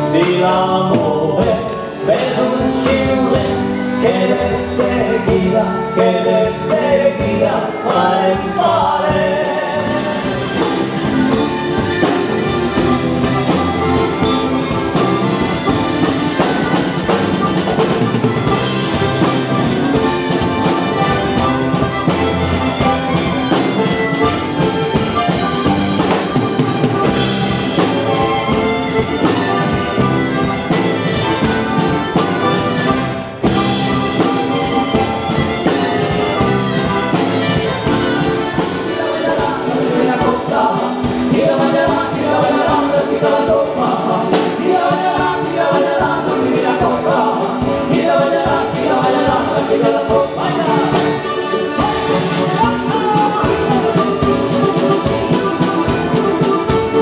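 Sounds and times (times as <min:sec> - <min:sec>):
acoustic guitars: 0:00.0 - 0:57.0
drum kit: 0:00.0 - 0:57.0
wind instrument: 0:00.0 - 0:57.0.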